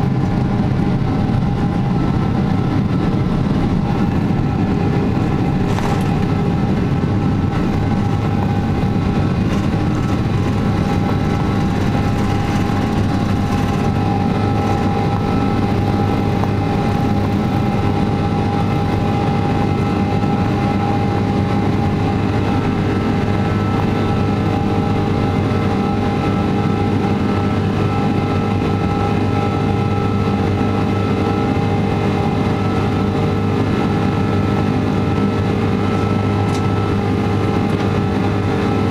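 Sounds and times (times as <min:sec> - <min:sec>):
jet engine drone with whining tones: 0:00.0 - 0:38.9.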